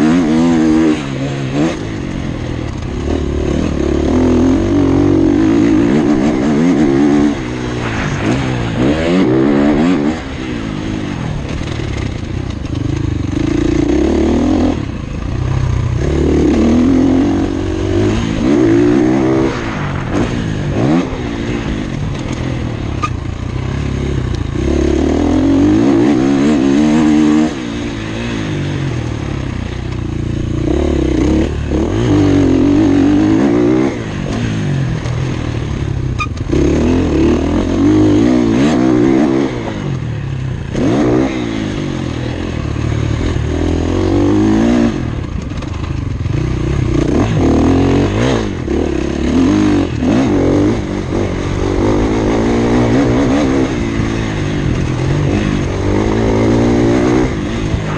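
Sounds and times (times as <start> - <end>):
motocross bike engine revving: 0.0 - 57.9.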